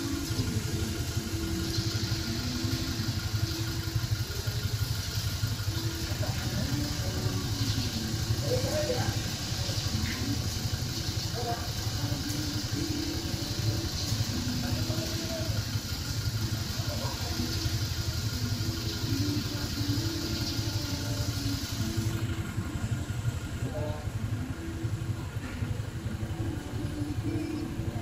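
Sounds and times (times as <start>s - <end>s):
high hiss: 0.0s - 22.9s
engine idling: 0.0s - 28.0s
faint voices: 0.0s - 28.0s.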